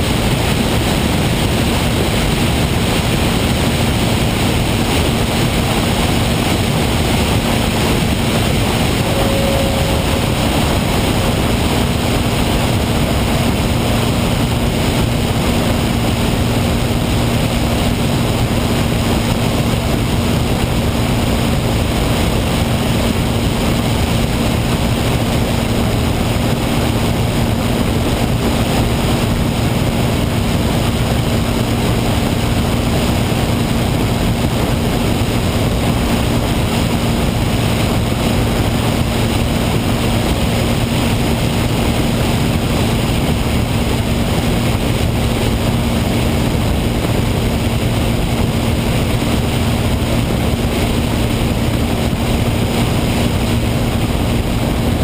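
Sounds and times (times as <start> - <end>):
propeller plane engine drone: 0.0 - 55.0
wind noise: 0.0 - 55.0.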